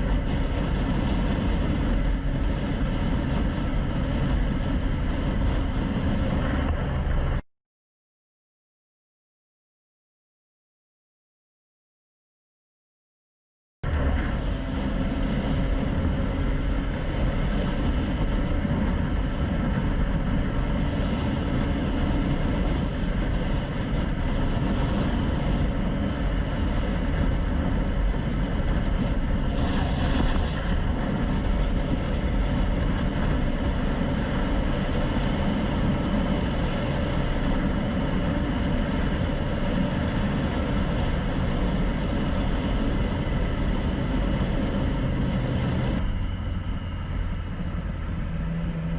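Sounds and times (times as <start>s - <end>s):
road and wind noise: 0.0s - 7.4s, 13.8s - 48.9s.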